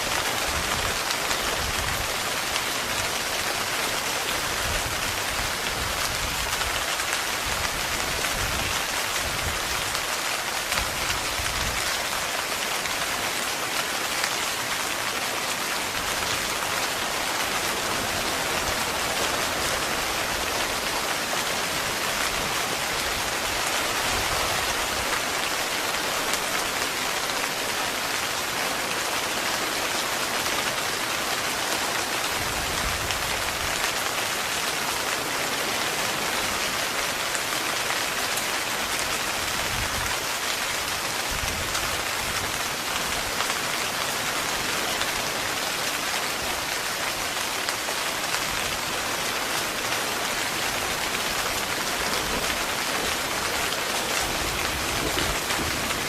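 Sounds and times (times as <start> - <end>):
heavy rain on tent fabric: 0.0 - 56.0.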